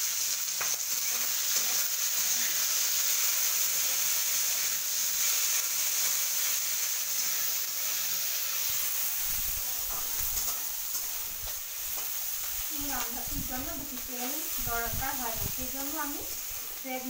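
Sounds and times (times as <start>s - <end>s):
onion sizzling in hot oil: 0.0s - 17.0s.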